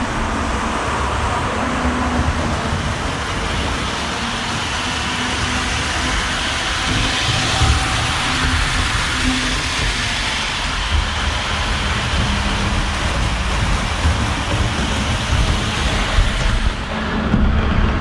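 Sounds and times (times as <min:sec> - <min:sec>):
model train rumbling on track: 0:00.0 - 0:18.0.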